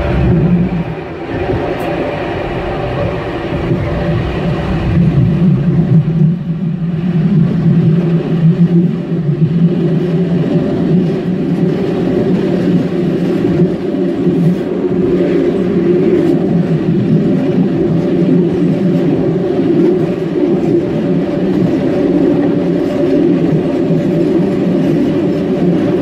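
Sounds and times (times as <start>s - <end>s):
low hum: 0.0s - 26.0s
tram wheels rumbling on rails: 0.0s - 26.0s.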